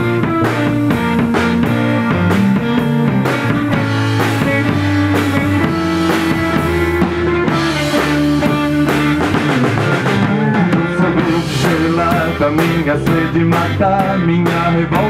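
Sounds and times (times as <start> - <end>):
bass line: 0.0 - 15.0
drum-kit beat: 0.0 - 15.0
guitars: 0.0 - 15.0.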